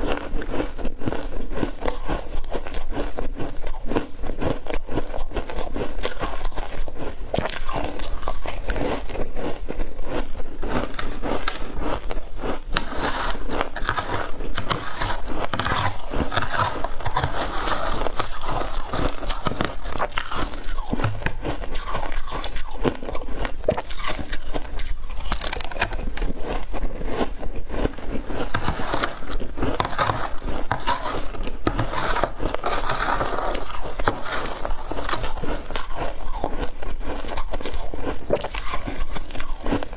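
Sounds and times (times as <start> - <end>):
chewing: 0.0 - 39.9
crunching shaved ice: 0.0 - 39.9
metal spoon scraping ice: 1.1 - 6.8, 10.7 - 39.9.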